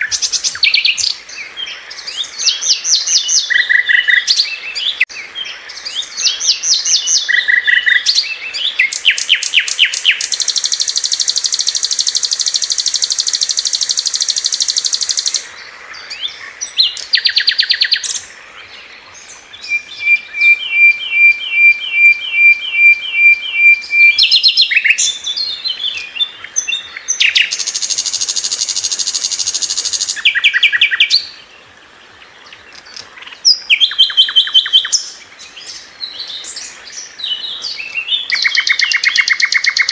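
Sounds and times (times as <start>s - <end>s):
flycatcher singing: 0.0s - 31.5s, 32.4s - 39.9s.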